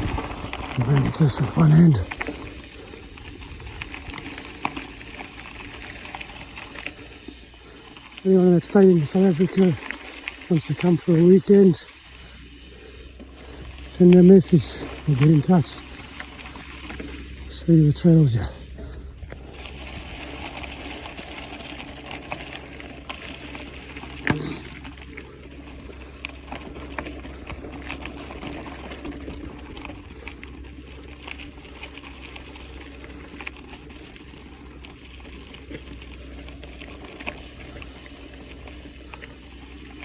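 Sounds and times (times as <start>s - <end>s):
bike rattles and clicks: 0.0s - 40.0s
bike tyres on gravel: 0.0s - 40.0s.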